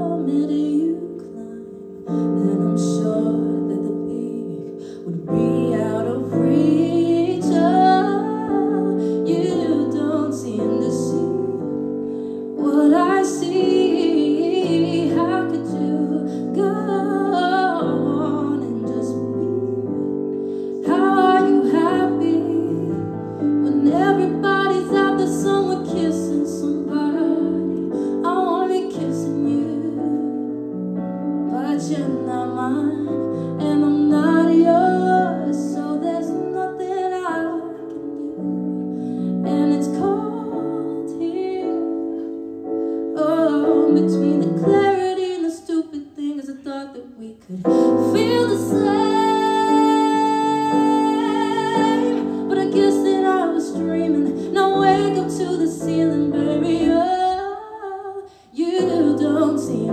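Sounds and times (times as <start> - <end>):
piano accompaniment: 0.0 - 46.7, 47.4 - 59.9
woman singing slow song: 0.0 - 59.9.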